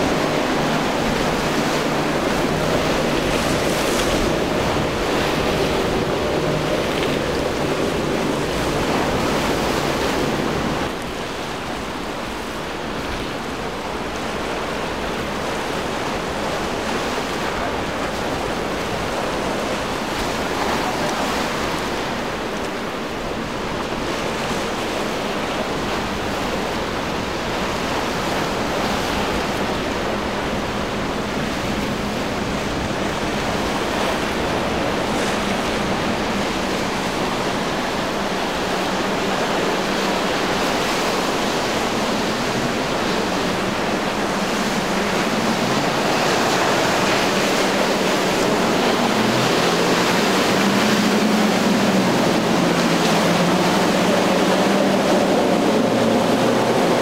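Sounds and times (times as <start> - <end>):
outboard engines droning: 0.0 - 57.0
waves and spray rushing: 0.0 - 57.0.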